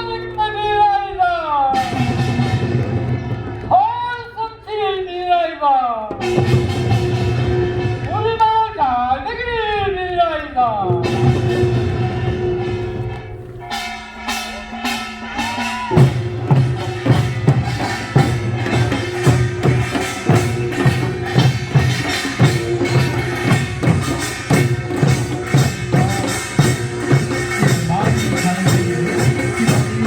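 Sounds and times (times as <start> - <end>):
percussion strikes in steady beat: 0.0 - 30.0.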